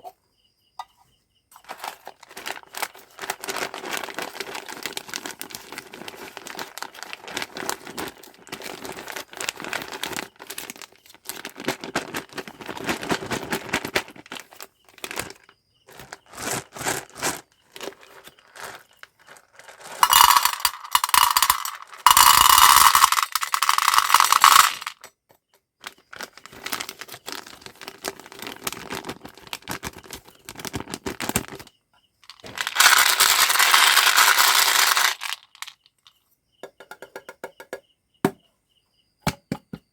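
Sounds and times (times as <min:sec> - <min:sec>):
candy wrapper crinkling: 0:01.6 - 0:25.0, 0:25.9 - 0:31.7, 0:32.3 - 0:35.8.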